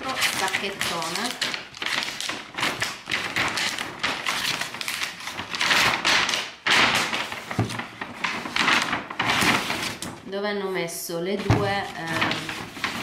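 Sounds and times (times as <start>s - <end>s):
paper bag rustling and crackling: 0.0s - 10.3s, 11.4s - 13.0s.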